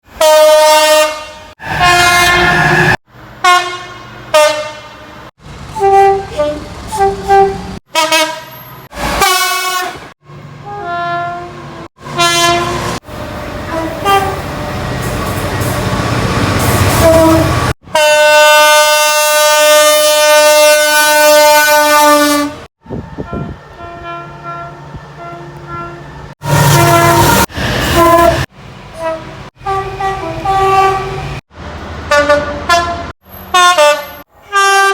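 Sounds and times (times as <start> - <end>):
diesel train air horn blasts: 0.2 - 5.2, 5.8 - 13.0, 13.6 - 14.5, 16.7 - 31.4, 32.1 - 34.9
approaching train rumble: 1.6 - 34.9.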